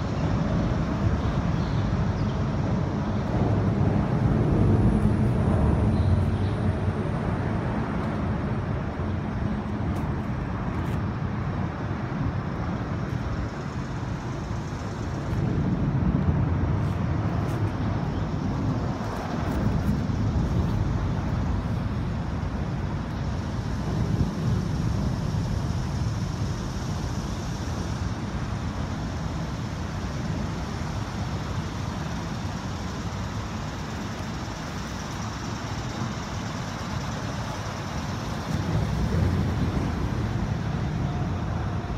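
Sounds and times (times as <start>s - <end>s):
highway traffic noise: 0.0s - 41.9s.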